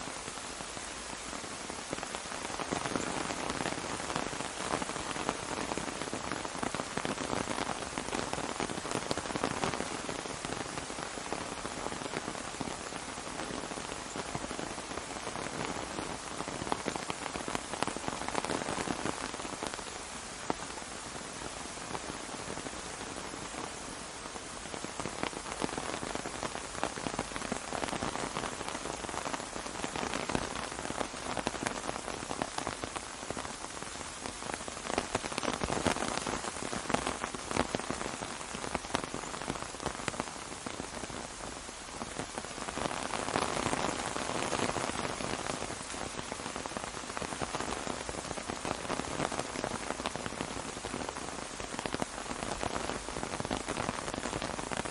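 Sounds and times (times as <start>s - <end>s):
rain pattering on an umbrella: 0.0s - 54.9s.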